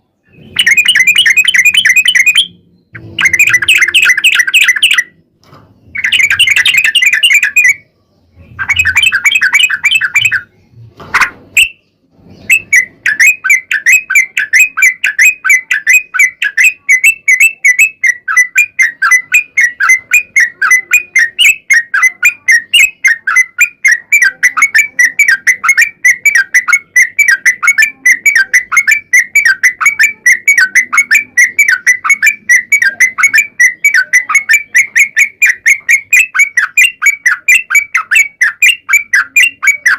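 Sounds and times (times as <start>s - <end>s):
bulbul song: 0.0s - 5.2s, 5.9s - 39.9s
rapid bird chattering: 0.3s - 5.2s, 5.8s - 39.9s.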